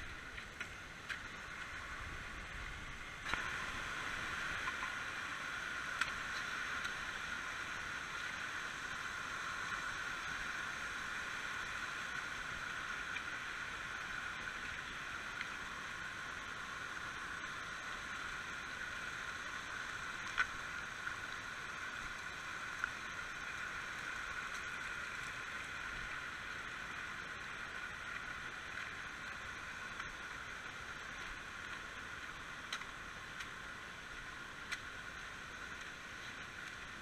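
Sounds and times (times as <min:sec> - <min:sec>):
stream rushing over stones: 0:00.0 - 0:37.0.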